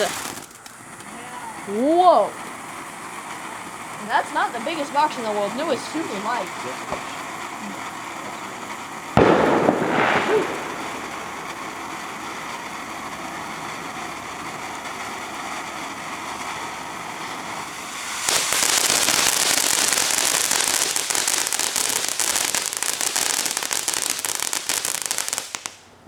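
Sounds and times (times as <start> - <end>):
firework hissing: 0.0 - 25.9
firework dense crackling: 0.0 - 26.0.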